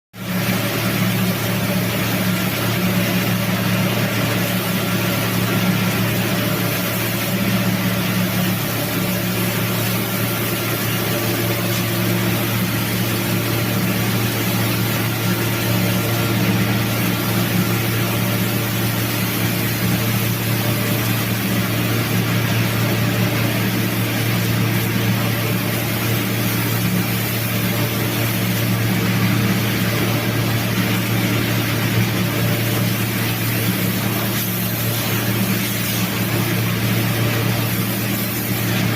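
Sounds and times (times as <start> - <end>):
knitting machine humming and hissing: 0.2 - 38.9.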